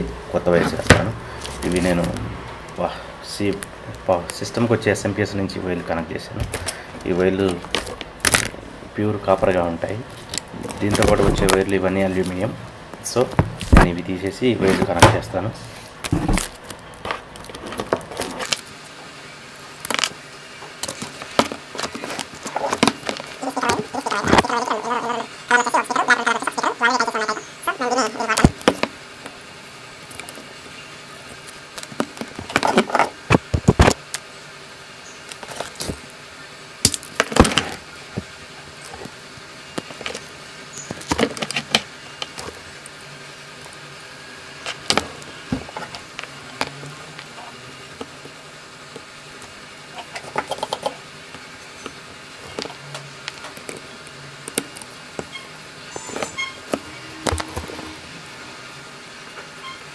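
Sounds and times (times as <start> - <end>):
faint hum: 0.0 - 59.9.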